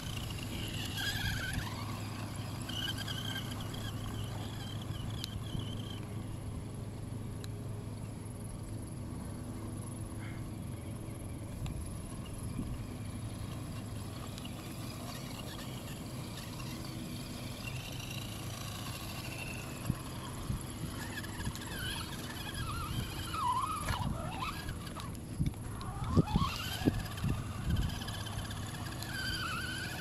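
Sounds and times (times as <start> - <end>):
rc car motor whining: 0.0 - 30.0.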